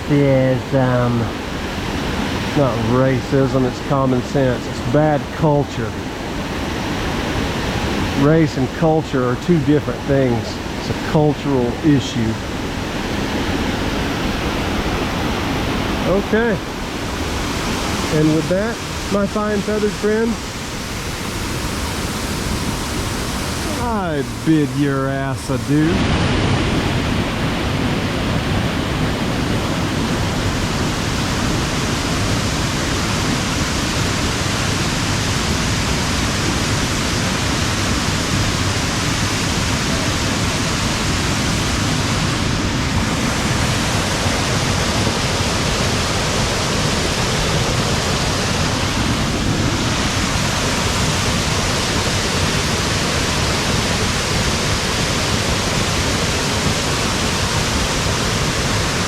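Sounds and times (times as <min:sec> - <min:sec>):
waterfall rushing: 0:00.1 - 0:59.0.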